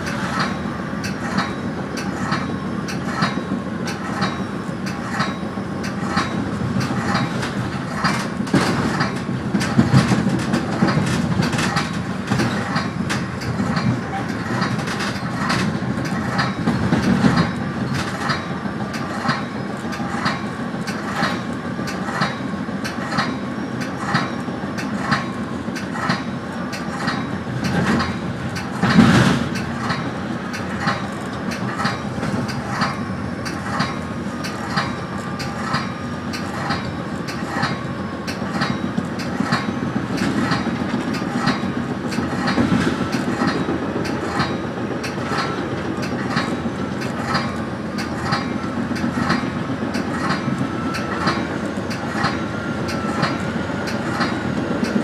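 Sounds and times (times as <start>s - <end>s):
train clatter: 0.0s - 55.0s
train rolling rumble: 0.0s - 55.0s
wheels clicking over rail joints: 0.0s - 55.0s.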